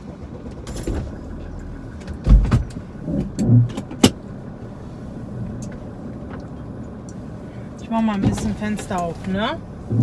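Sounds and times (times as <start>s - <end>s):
steady low background hum: 0.0s - 10.0s.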